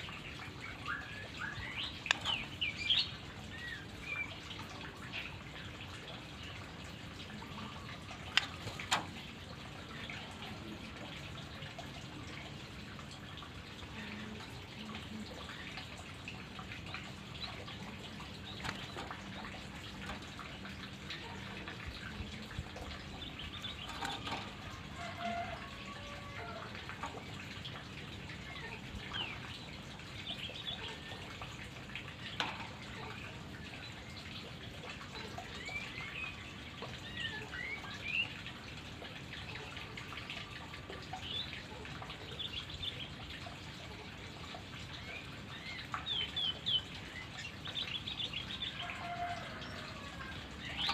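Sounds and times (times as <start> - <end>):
songbird chirps: 0.0 - 39.8, 40.5 - 49.6.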